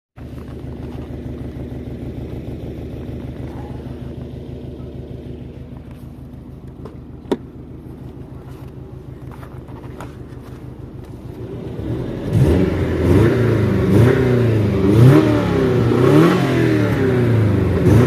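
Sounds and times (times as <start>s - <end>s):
car engine idling: 0.2s - 18.0s.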